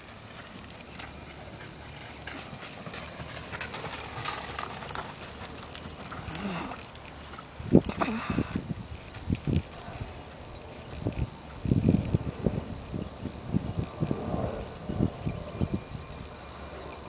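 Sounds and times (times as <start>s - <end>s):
horse hoofbeats trotting: 0.0s - 17.0s.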